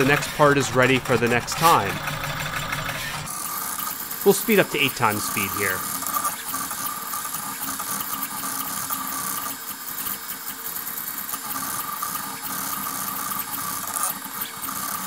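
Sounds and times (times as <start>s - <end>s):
machine whirring with high tone: 0.0s - 15.0s.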